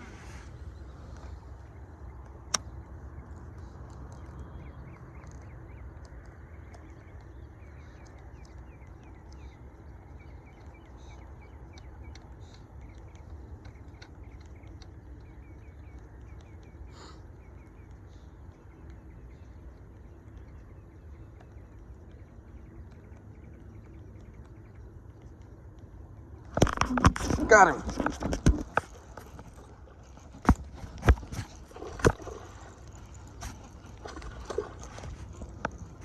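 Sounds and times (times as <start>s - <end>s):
low wind rumble: 0.0s - 36.0s.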